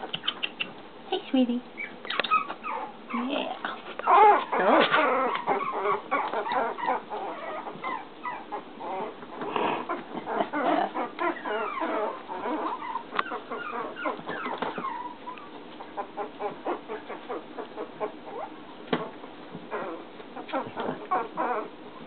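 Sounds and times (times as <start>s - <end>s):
puppies whimpering and squeaking: 0.0s - 0.8s, 1.7s - 22.0s.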